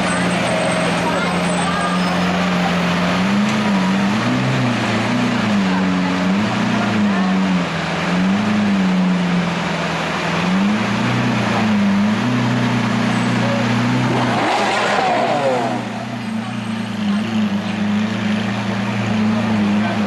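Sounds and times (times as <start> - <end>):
car engine at high idle: 0.0 - 20.0.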